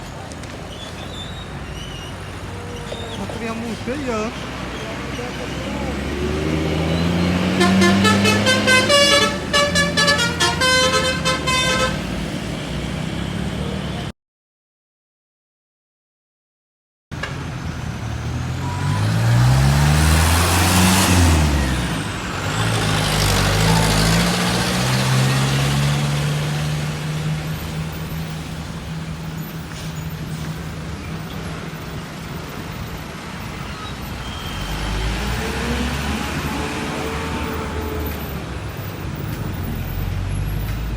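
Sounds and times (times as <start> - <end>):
bus driving past: 0.0 - 14.1, 17.2 - 40.9.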